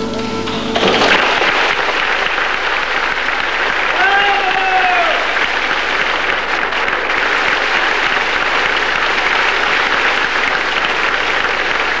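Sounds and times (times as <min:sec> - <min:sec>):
audience applauding: 0:00.5 - 0:12.0.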